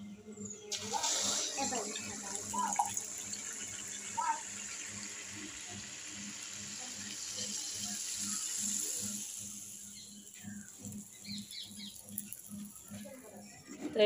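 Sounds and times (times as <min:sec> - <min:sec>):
low pulsing hum: 0:00.0 - 0:14.0
hot oil sizzling: 0:00.7 - 0:13.6.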